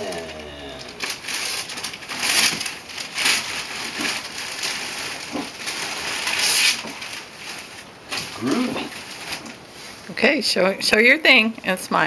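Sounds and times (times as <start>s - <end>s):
plastic and wrapping crinkling: 0.0s - 10.1s.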